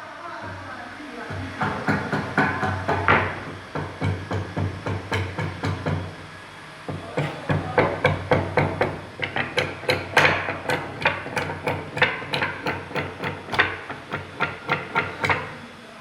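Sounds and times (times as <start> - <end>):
hammering: 0.4 - 15.7.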